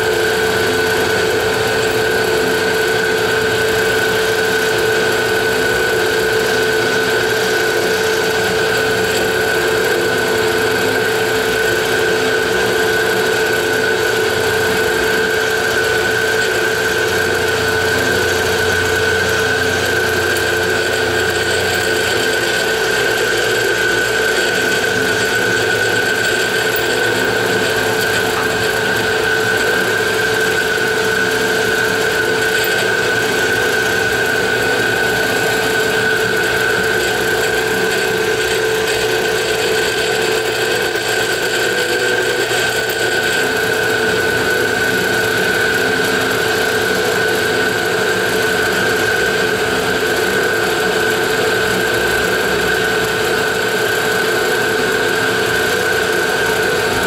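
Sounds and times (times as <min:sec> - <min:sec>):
end mill cutting metal: 0:00.0 - 0:57.0
milling machine whine: 0:00.0 - 0:57.0.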